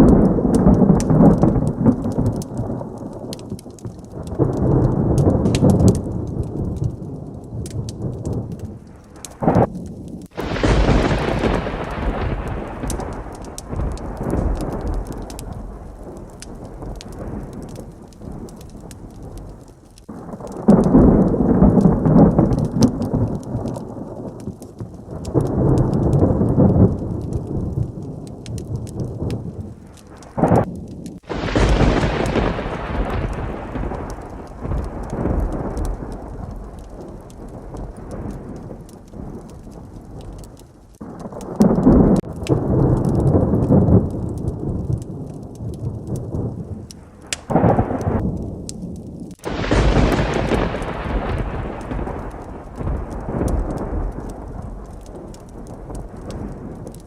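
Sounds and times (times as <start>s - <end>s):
heavy rain falling: 0.0s - 57.0s
sharp thunderclap: 0.0s - 57.0s
thunder rumbling: 0.0s - 57.0s.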